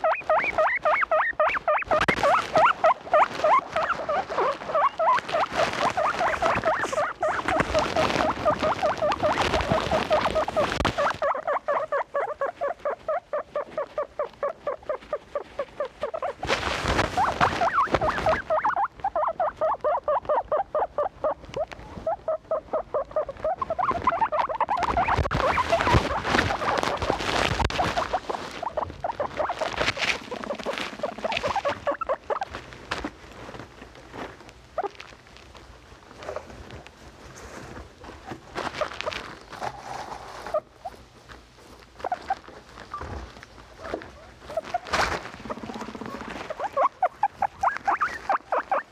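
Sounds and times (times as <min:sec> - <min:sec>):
guinea pigs squeaking: 0:00.0 - 0:35.6, 0:36.2 - 0:48.9
rustling: 0:00.0 - 0:48.9.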